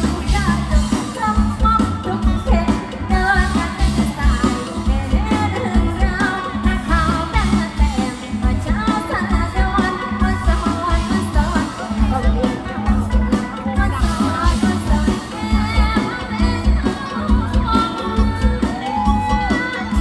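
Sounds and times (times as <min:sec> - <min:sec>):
band playing bass and drums: 0:00.0 - 0:20.0
woman singing: 0:00.0 - 0:20.0.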